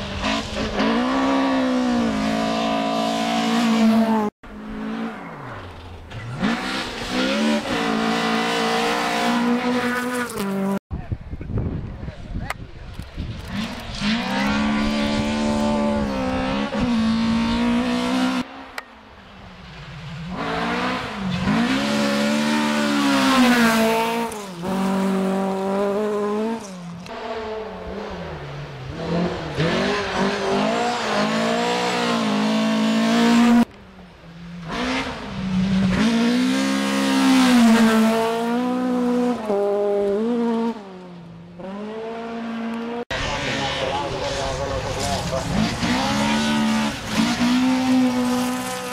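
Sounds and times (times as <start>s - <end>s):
rally car engines revving hard: 0.0s - 10.8s, 13.4s - 18.8s, 20.0s - 33.7s, 34.5s - 48.9s.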